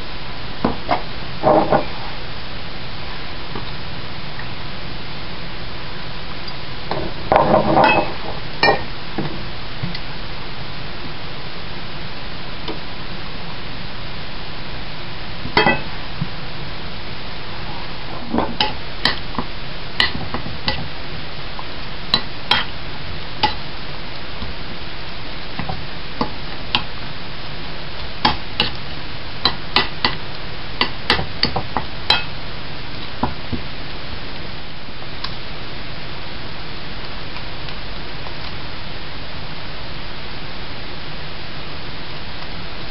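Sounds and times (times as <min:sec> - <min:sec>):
steady hiss: 0:00.0 - 0:42.9.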